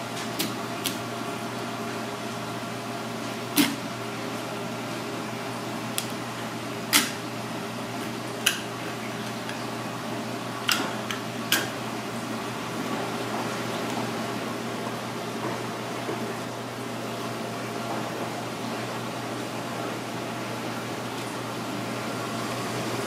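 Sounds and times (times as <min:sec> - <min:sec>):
fan-like hum: 0:00.0 - 0:23.0.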